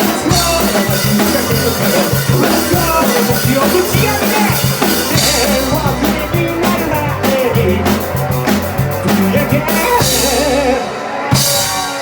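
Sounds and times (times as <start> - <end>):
drum kit beating: 0.0 - 12.0
rock band playing live: 0.0 - 12.0.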